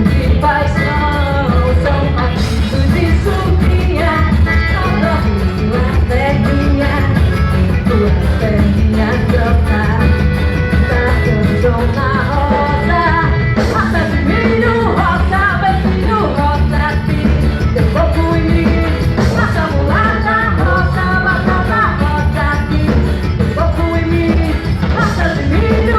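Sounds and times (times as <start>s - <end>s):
band music: 0.0s - 25.9s
heavy bass line: 0.0s - 25.9s
person singing: 0.0s - 25.9s.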